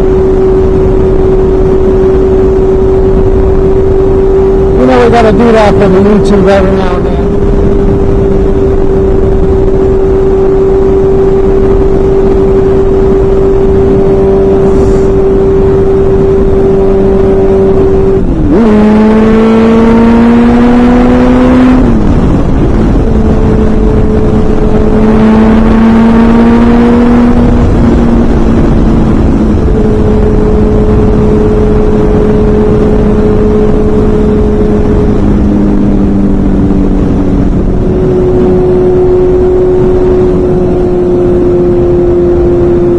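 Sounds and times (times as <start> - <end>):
motorcycle engine running: 0.0 - 42.9
wind noise: 0.0 - 42.9.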